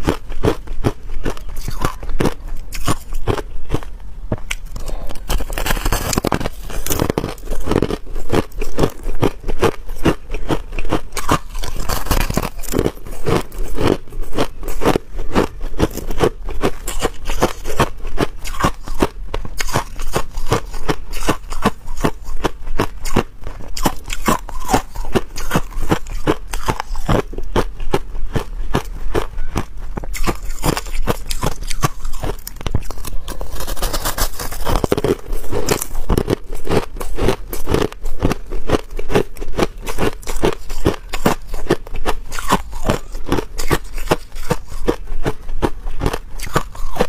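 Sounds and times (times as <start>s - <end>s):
crushed ice being chewed: 0.0s - 47.0s.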